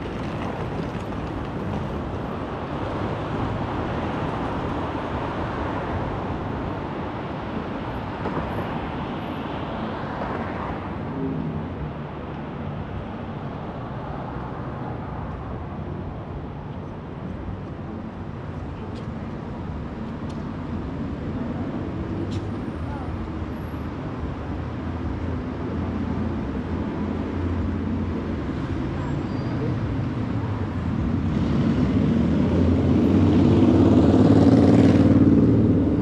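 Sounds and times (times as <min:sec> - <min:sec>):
city traffic noise: 0:00.0 - 0:36.0.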